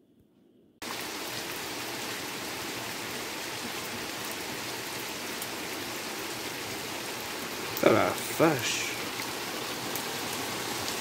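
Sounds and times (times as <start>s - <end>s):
heavy rain pouring: 0.8s - 11.0s.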